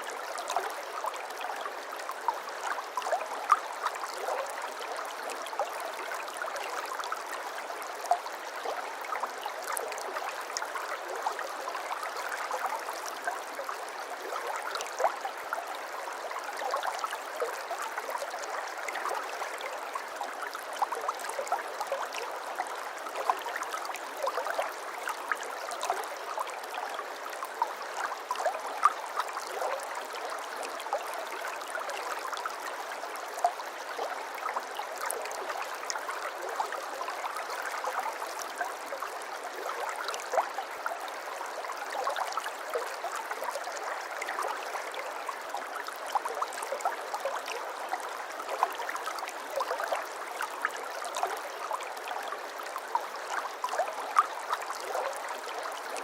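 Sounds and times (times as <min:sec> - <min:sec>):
stream water burbling: 0:00.0 - 0:56.0.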